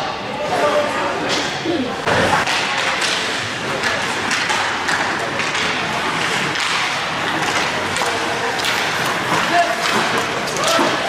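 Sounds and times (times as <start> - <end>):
skates and sticks scraping on ice: 2.0 - 11.0.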